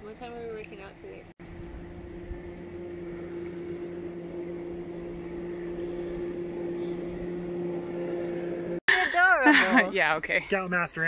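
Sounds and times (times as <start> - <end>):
distant motor hum: 0.0 - 8.9.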